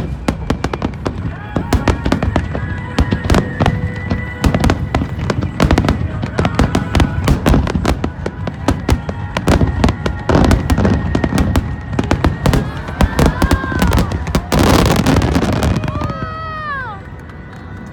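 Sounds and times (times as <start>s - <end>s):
fireworks barrage bursting and crackling: 0.0s - 17.9s
music with sustained tones: 0.0s - 17.9s.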